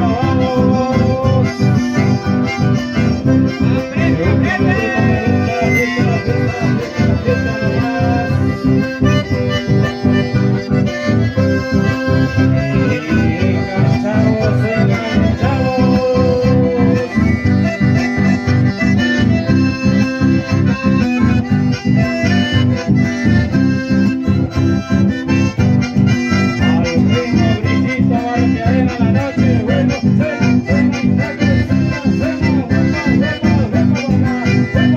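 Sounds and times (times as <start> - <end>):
accordions playing melody: 0.0 - 34.9
acoustic guitars: 0.0 - 34.9.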